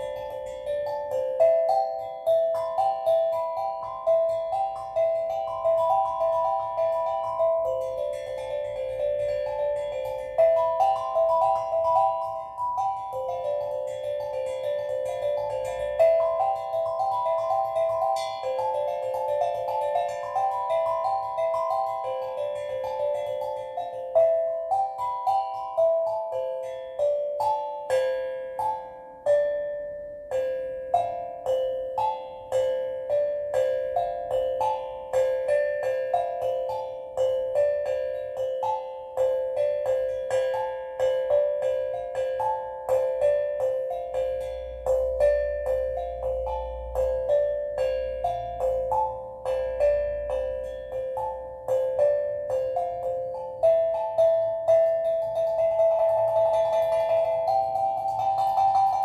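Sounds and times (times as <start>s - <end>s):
steel drum melody: 0.0s - 59.0s.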